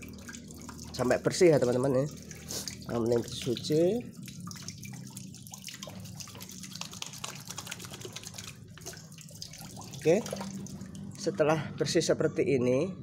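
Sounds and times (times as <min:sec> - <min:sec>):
splashing and dripping water: 0:00.0 - 0:11.3.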